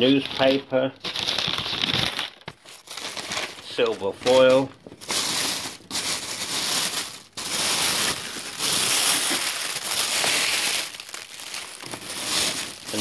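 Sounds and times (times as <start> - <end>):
foil crinkling: 0.0 - 13.0.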